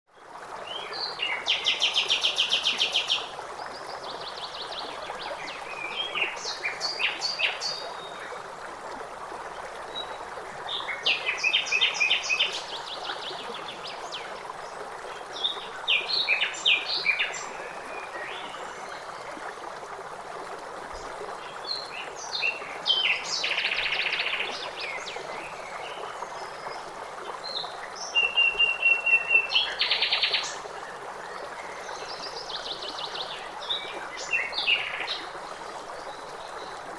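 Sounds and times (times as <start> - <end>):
flowing water rushing: 0.1 - 36.9.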